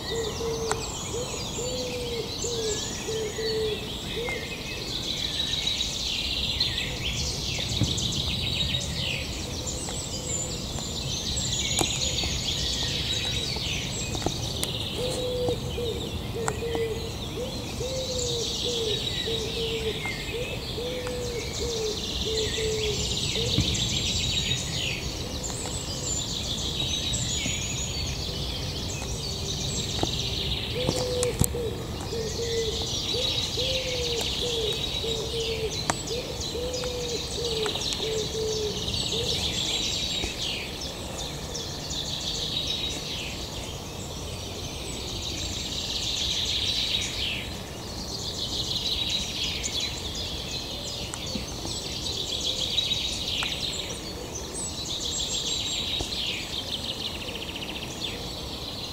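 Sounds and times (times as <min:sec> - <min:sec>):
birds singing and chirping: 0:00.0 - 0:58.9.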